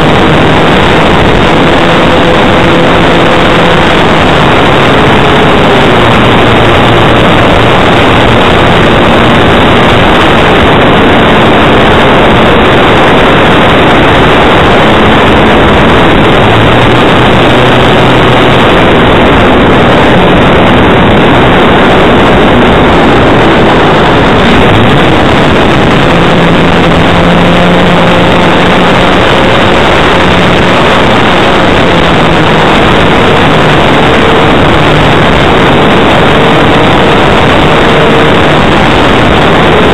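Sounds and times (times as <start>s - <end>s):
propeller noise: 0.0s - 39.9s
wind rushing on microphone: 0.0s - 39.9s.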